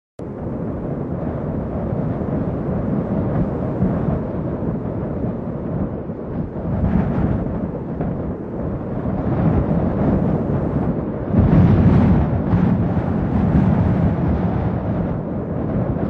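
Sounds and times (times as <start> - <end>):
low rumble: 0.2 - 16.0.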